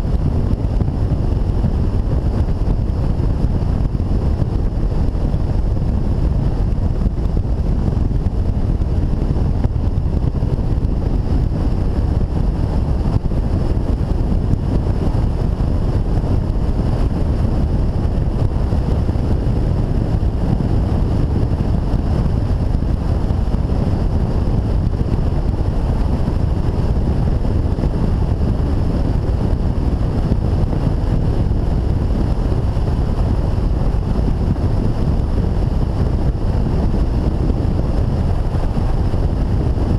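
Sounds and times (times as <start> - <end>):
motorcycle engine and tyre noise: 0.0 - 39.9
wind rushing over microphone: 0.0 - 39.9.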